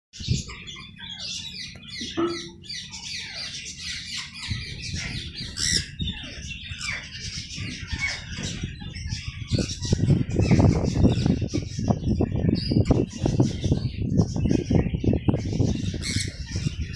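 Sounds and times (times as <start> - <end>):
flock of small birds chirping: 0.2 - 16.9.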